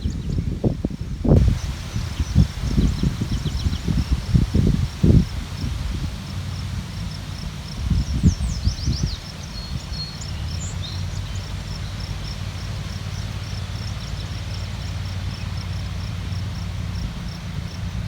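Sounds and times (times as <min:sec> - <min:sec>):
wind blowing through grass: 0:00.0 - 0:18.0
insect chirping: 0:01.3 - 0:18.0.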